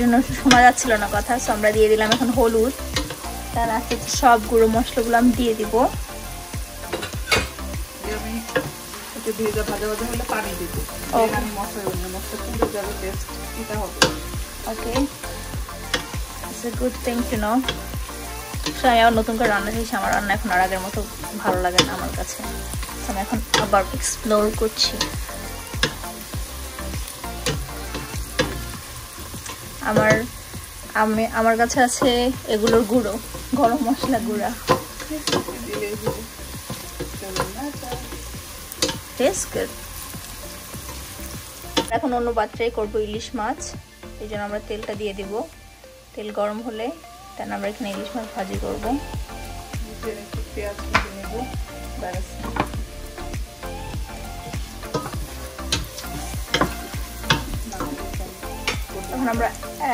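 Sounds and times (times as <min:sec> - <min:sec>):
curry sizzling: 0:00.0 - 0:59.9.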